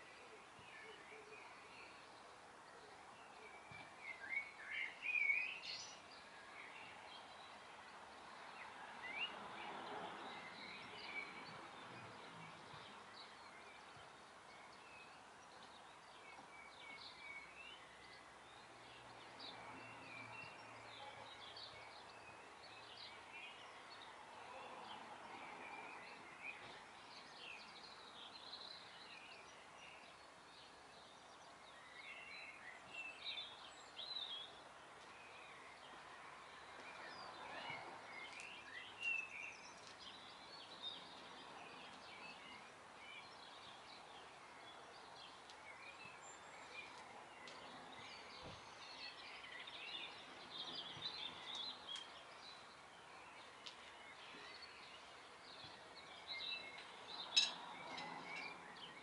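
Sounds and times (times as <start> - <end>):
small birds chirping: 0.0 - 59.0
steady outdoor hiss: 0.0 - 59.0.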